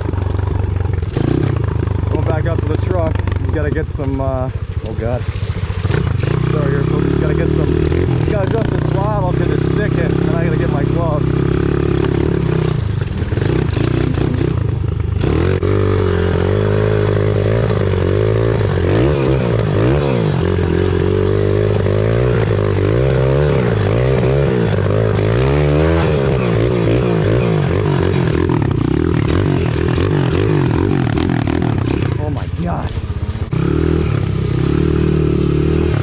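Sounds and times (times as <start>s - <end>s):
small motorbike engine revving: 0.0s - 4.1s, 4.8s - 36.0s.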